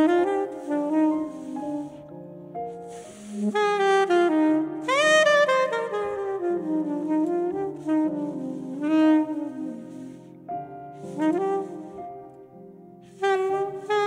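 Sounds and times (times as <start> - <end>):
grand piano accompaniment: 0.0 - 14.0
soprano saxophone jazz melody: 0.0 - 14.0.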